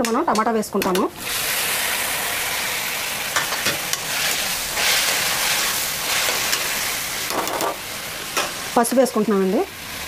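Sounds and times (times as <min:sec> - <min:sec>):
vegetables sizzling in hot oil: 0:01.0 - 0:10.0.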